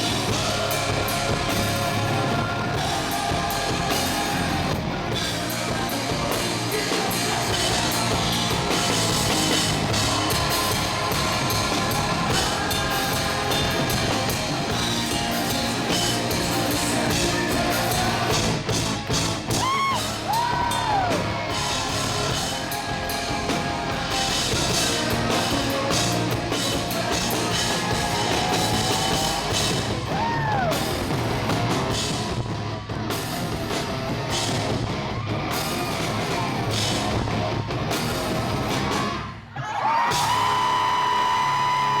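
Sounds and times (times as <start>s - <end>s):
live rock band playing loudly: 0.0s - 39.5s, 40.1s - 42.0s
driving drum kit: 0.0s - 42.0s.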